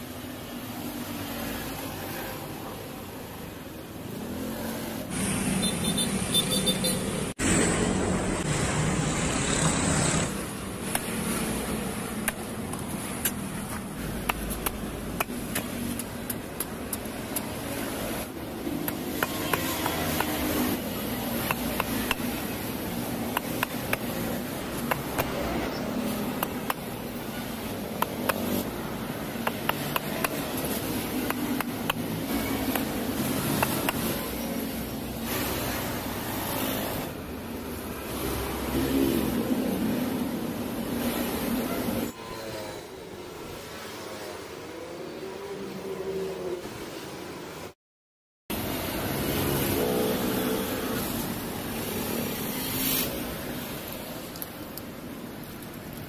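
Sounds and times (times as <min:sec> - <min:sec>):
street traffic: 0:00.0 - 0:47.8, 0:48.5 - 0:56.0.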